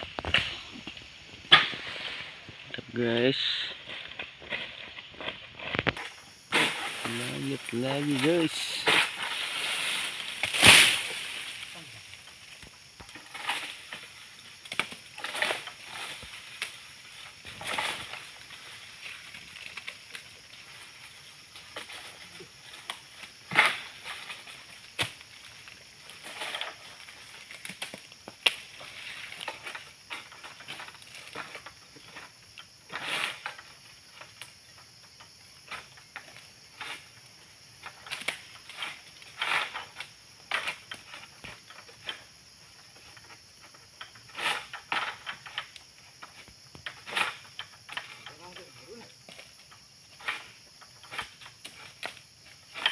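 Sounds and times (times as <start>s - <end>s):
dry palm fronds rustling: 0.0s - 52.9s.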